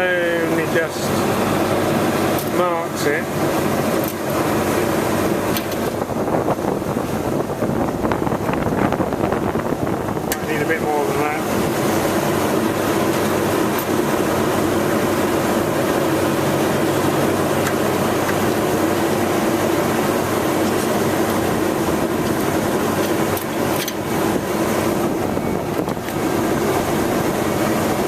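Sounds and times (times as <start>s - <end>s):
machinery hum and whir: 0.0s - 28.0s.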